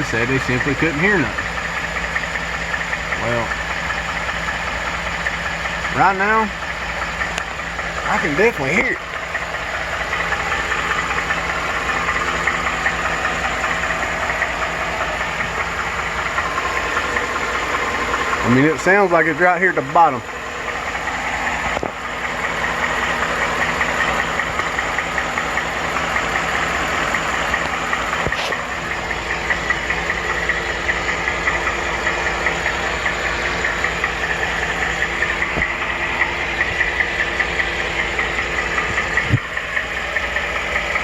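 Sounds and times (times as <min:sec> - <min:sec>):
car engine idling with ticking: 0:00.0 - 0:41.0.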